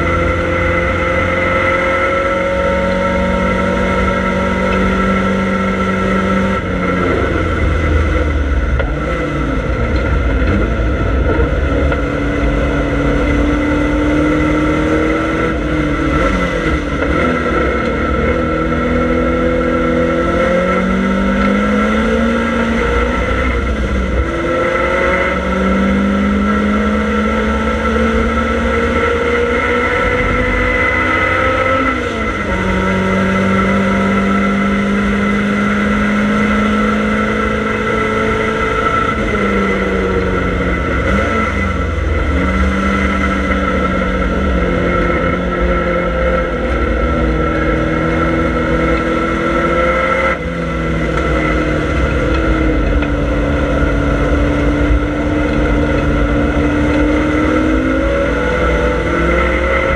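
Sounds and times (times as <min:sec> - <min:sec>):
car engine revving: 0:00.0 - 0:59.9
road and wind noise: 0:00.0 - 0:59.9.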